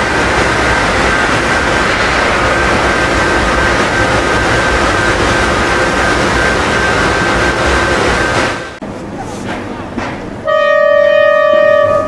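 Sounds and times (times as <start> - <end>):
steam train running past: 0.0 - 12.0.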